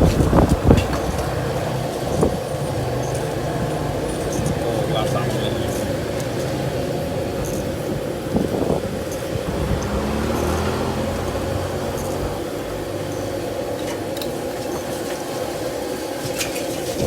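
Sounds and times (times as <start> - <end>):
vehicle engine passing: 0.0 - 14.1.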